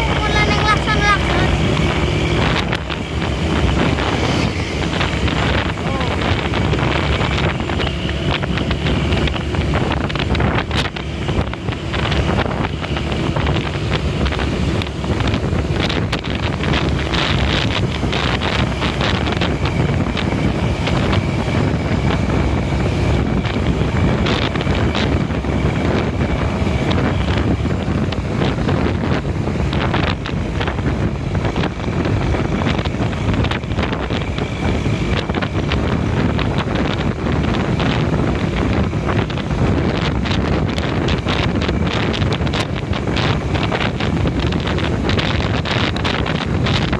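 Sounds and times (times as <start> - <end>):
bus engine and road noise: 0.0 - 46.9
wind buffeting microphone: 0.0 - 46.9.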